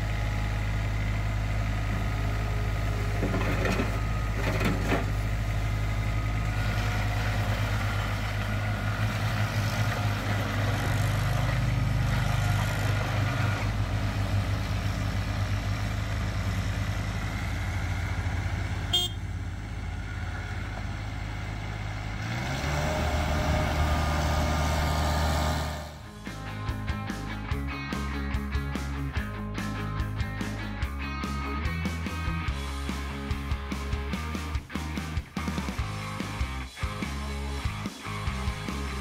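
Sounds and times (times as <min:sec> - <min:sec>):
diesel engine revving: 0:00.0 - 0:39.0.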